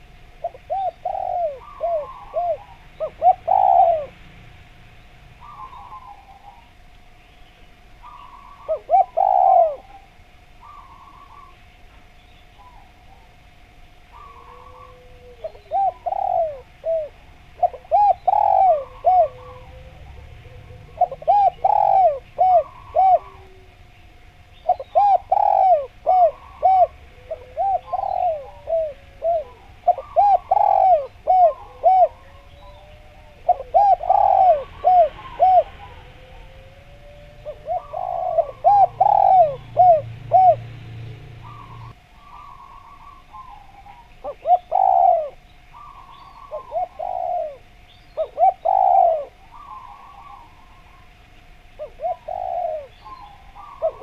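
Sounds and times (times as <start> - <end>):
dove cooing: 0.0 - 4.3, 5.3 - 6.8, 8.0 - 11.7, 14.0 - 54.0.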